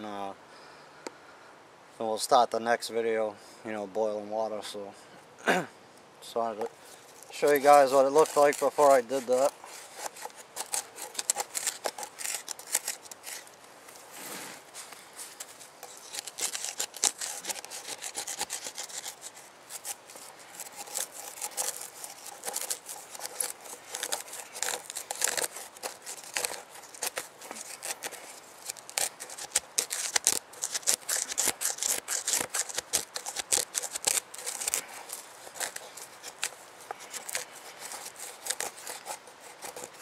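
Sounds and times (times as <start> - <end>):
stick scraping wooden bowl: 6.6 - 40.0.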